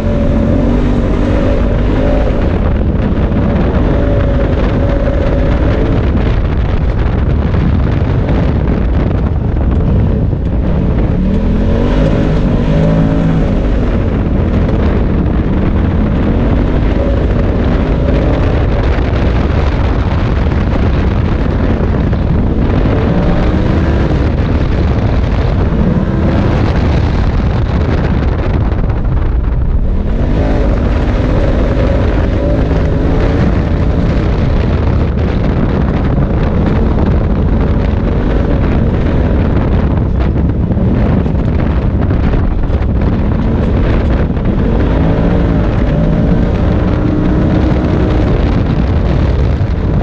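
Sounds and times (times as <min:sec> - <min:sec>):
engine revving: 0:00.0 - 0:50.0
wind buffeting microphone: 0:00.0 - 0:50.0.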